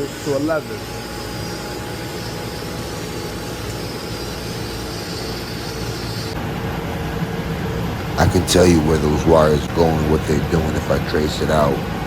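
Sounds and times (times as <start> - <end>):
faint constant hum: 0.0 - 12.0
machinery mechanical drone: 0.0 - 12.0.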